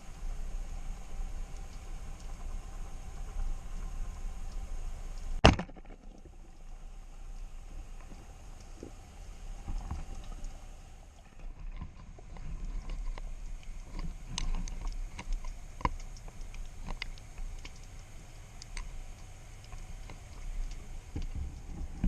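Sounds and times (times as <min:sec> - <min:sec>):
sharp clicks and crackles: 0:00.0 - 0:22.0
underwater rumble of moving water: 0:00.0 - 0:22.0.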